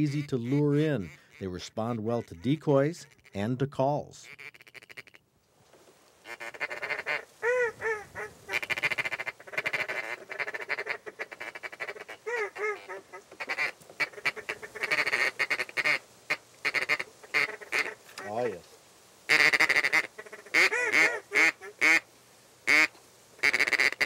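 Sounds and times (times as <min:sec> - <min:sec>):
duck call quacks: 0:00.0 - 0:03.5, 0:04.2 - 0:05.2, 0:06.2 - 0:18.4, 0:19.3 - 0:22.0, 0:22.7 - 0:24.0
duck call chattering notes: 0:00.0 - 0:03.6, 0:04.2 - 0:05.2, 0:06.2 - 0:18.4, 0:19.3 - 0:22.0, 0:22.7 - 0:24.0.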